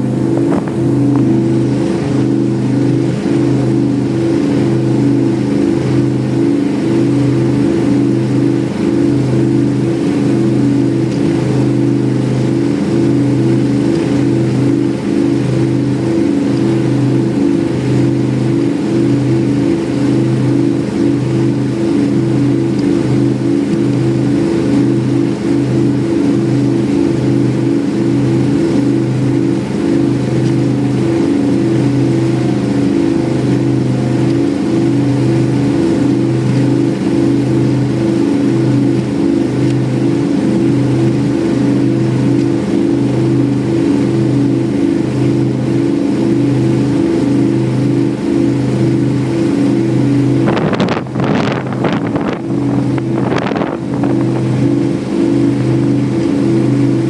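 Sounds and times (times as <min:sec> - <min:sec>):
powerboat engines droning: 0:00.0 - 0:57.0.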